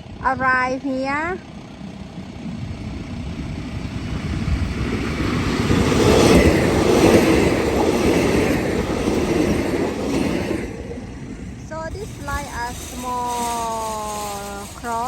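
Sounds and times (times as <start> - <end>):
train rumble and wheel noise: 0.0 - 15.0.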